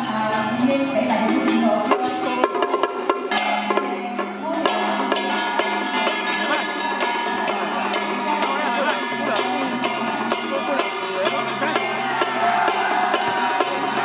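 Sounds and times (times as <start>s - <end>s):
cymbals: 0.0s - 14.0s
drum beat: 1.8s - 14.0s.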